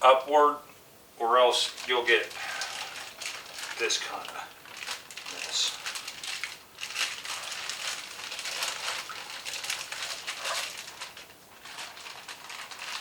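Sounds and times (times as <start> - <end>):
plastic bag crinkling: 1.6 - 13.0.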